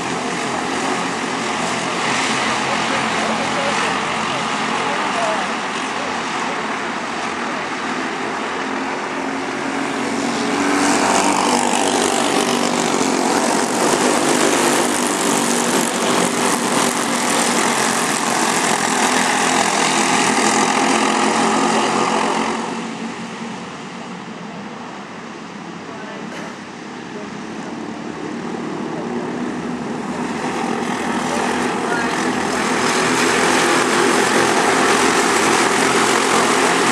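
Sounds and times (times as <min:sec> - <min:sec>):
kart engine running hard: 0:00.0 - 0:24.7, 0:26.2 - 0:36.9.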